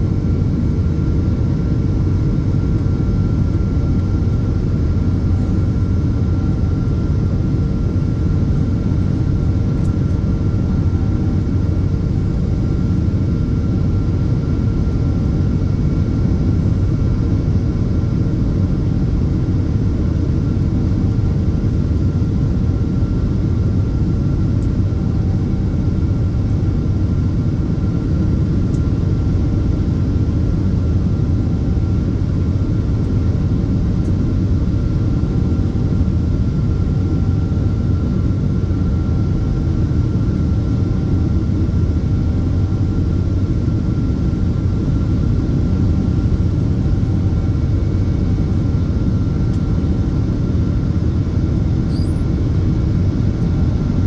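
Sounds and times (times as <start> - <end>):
faint humming tones: 0.0 - 54.0
jet engine and airflow roar: 0.0 - 54.0.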